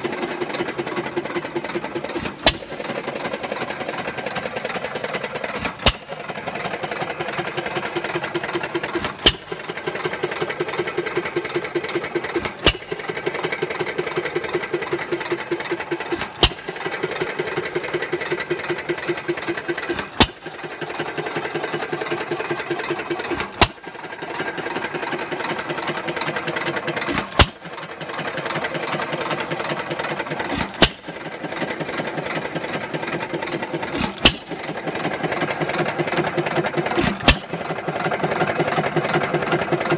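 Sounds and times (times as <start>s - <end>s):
engine rhythmic clatter: 0.0s - 39.9s.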